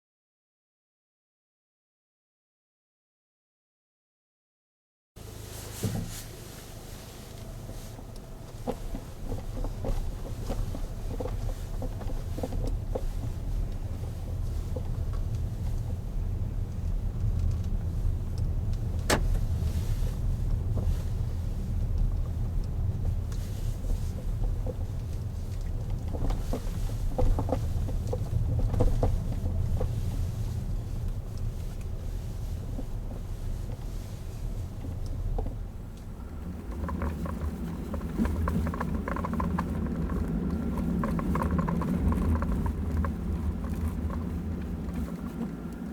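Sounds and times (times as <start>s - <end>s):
car driving rumble: 5.2s - 45.9s.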